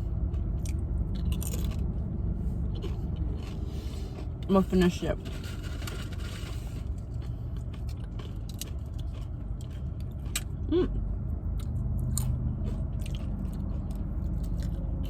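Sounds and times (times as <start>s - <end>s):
low steady hum: 0.0s - 15.0s
chips being bitten and chewed: 0.6s - 2.0s, 2.7s - 10.9s, 11.5s - 15.0s.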